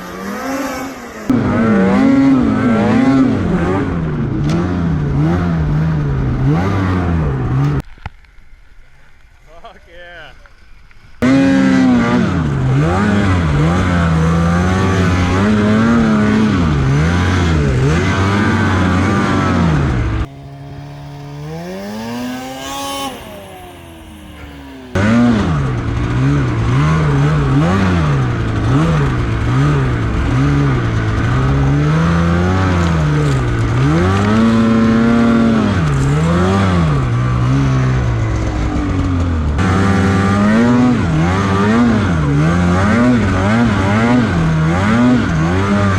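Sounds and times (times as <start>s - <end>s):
snowmobile engine revving: 0.0s - 7.8s, 11.2s - 45.9s.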